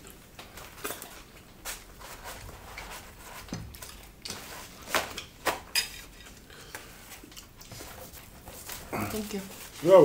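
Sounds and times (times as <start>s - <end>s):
people chewing: 0.0s - 5.3s, 5.9s - 9.4s.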